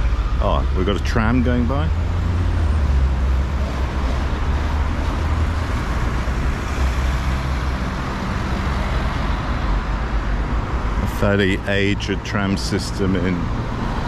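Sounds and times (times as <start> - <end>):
tram passing: 0.0 - 12.7
cars driving past: 0.0 - 14.0.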